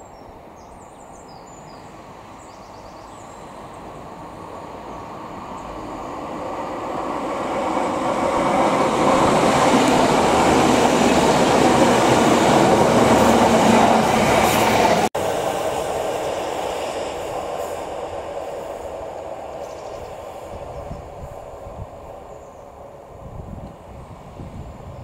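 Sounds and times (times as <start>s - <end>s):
diesel train passing: 0.0s - 25.0s.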